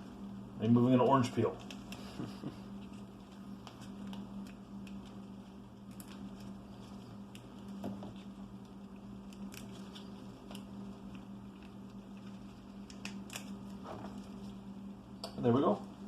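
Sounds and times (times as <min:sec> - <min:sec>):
steady low hum: 0:00.0 - 0:16.0
resin supports crackling and snapping: 0:01.3 - 0:15.4.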